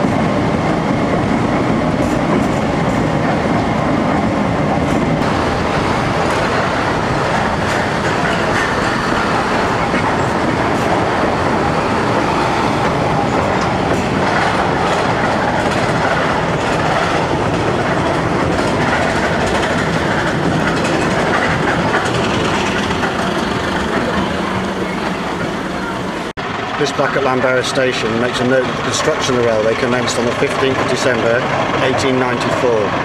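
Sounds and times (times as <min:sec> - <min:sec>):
wheels running on rails: 0:00.0 - 0:33.0.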